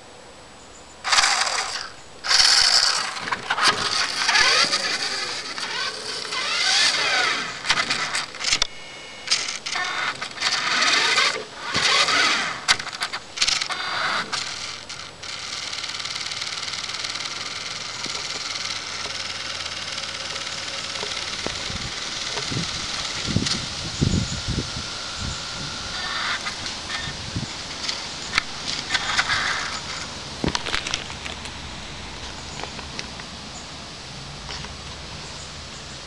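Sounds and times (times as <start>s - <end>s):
small electric motor whining: 1.0s - 31.2s.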